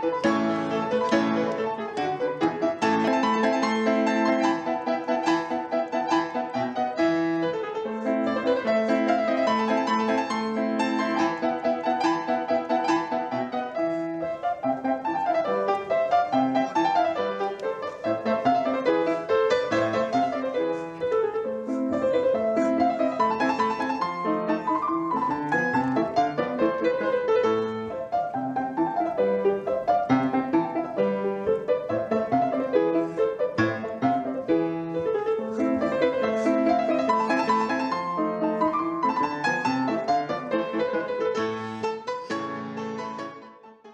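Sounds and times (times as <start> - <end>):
piano music: 0.0 - 43.9.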